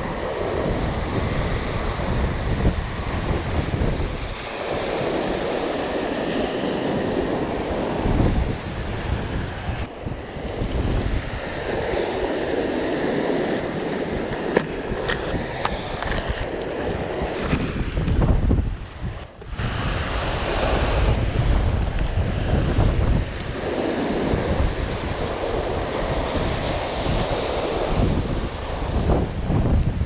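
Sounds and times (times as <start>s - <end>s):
waves washing over pebbles: 0.0s - 30.0s
wind buffeting microphone: 0.0s - 30.0s.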